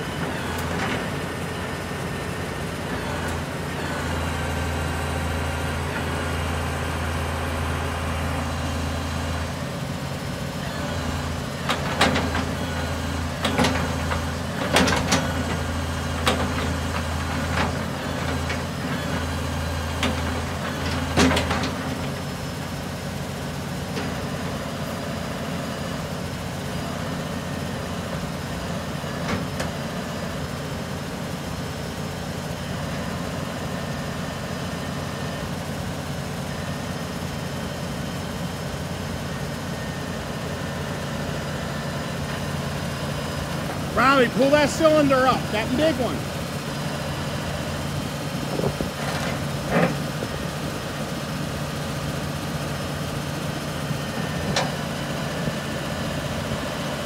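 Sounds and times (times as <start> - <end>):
hydraulics humming: 0.0 - 57.0
truck engine running: 0.0 - 57.0.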